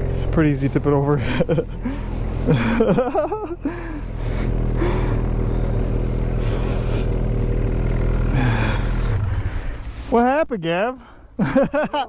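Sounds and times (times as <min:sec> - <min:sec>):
snowmobile engine running: 0:00.0 - 0:10.4.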